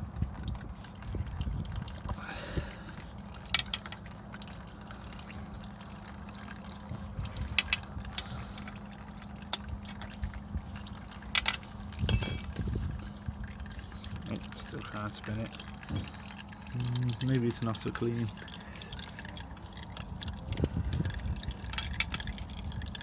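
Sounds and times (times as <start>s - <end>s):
oil trickling into a bucket: 0.0s - 23.0s.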